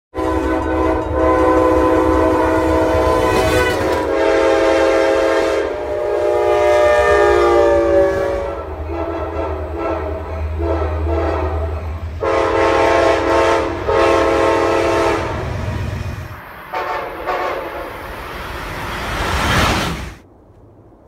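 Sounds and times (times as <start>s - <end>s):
locomotive horns: 0.1s - 18.1s
train rumbling on rails: 0.1s - 21.0s.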